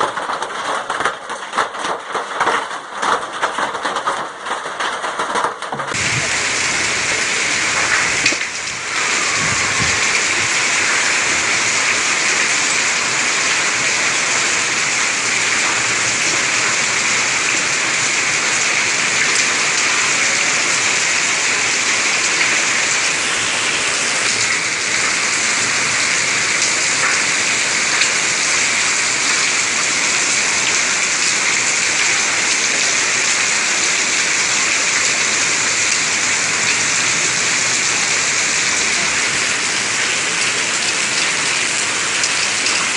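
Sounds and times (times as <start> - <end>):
hailstones ticking on surfaces: 0.0 - 42.9
rain and hail pelting down: 0.0 - 42.9.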